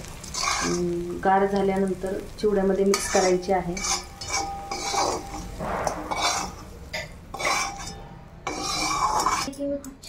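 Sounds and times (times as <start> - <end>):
metal spatula scraping wok: 0.0 - 1.2, 2.8 - 10.0.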